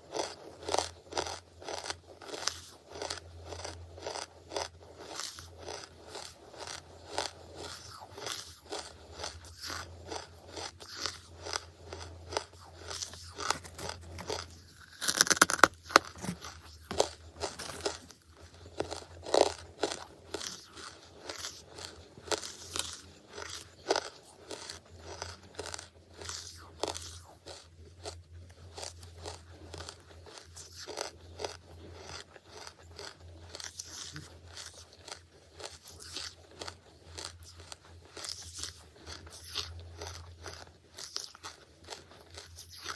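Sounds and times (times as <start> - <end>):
crunching and chewing: 0.0 - 42.9.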